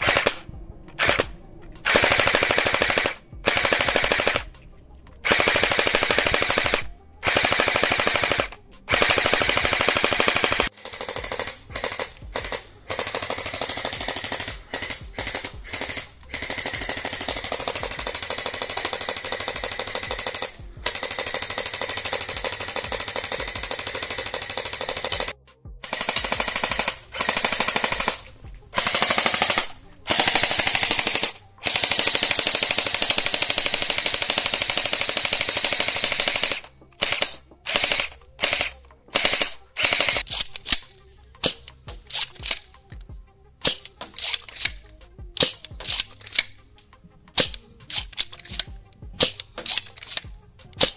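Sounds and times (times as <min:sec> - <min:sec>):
gel blaster firing full auto: 0:00.0 - 0:04.5, 0:05.2 - 0:42.7.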